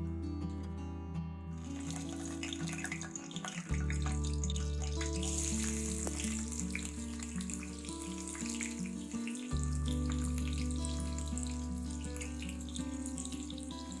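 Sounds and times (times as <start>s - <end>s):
background music with bass: 0.0s - 14.0s
food frying in hot oil: 1.6s - 14.0s.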